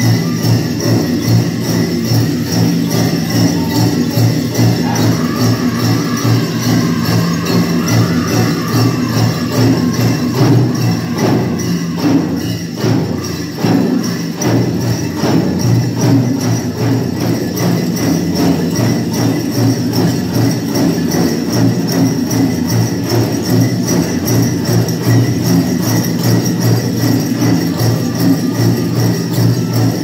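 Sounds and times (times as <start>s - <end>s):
big drum steady beat: 0.0s - 30.0s
drum group singing: 0.0s - 30.0s
jingles jangling: 0.0s - 30.0s.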